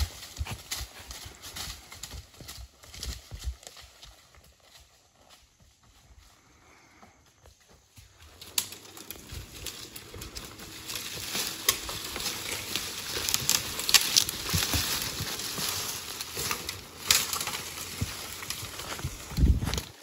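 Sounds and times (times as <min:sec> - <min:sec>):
horse hooves crunching dry leaves: 0:00.0 - 0:20.0.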